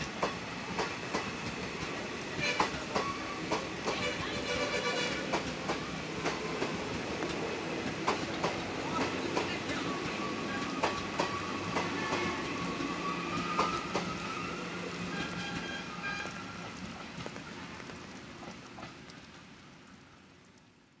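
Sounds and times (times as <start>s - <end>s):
train coaches rolling past: 0.0s - 20.4s
wheels clicking over rail joints: 0.0s - 20.7s.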